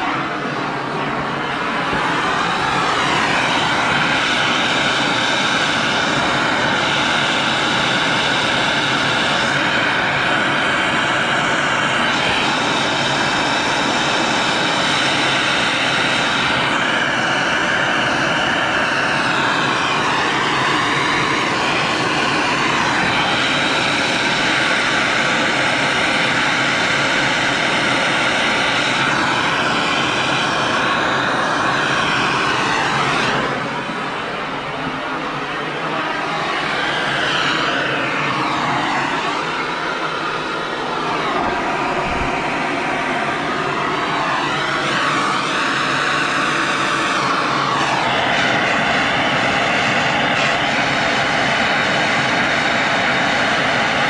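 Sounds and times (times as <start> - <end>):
gas torch hissing: 0.0 - 52.7.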